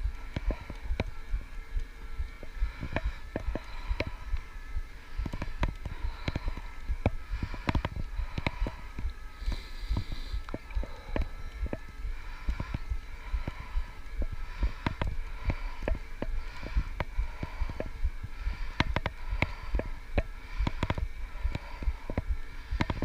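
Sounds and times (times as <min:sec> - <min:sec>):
electric motor hum: 0:00.0 - 0:23.0
low rumble: 0:00.0 - 0:23.0.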